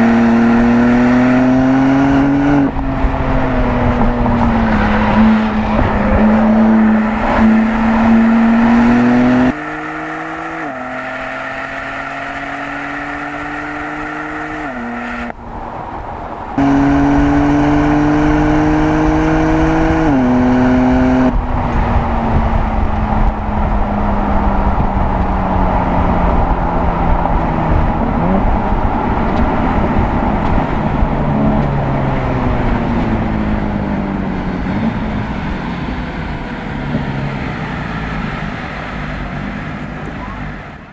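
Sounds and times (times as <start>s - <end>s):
car engine accelerating: 0.0s - 15.4s, 16.5s - 40.9s
wind and tyre noise: 0.0s - 40.9s.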